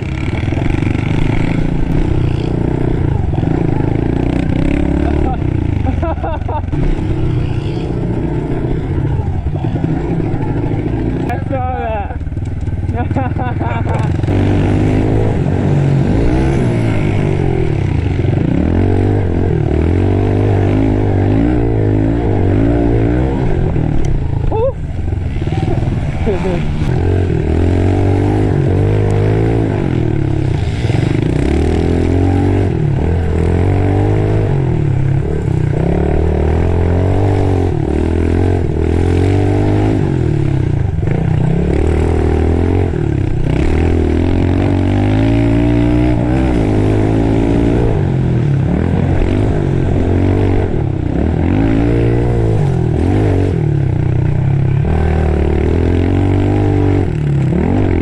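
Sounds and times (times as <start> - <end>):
pit bike engines revving: 0.0 - 58.0.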